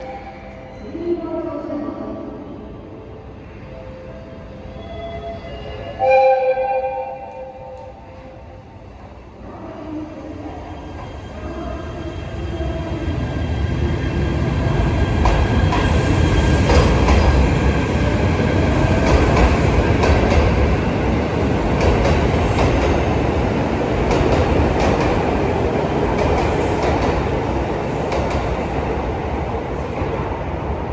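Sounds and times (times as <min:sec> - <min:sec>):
train rumbling on rails: 0:00.0 - 0:30.9.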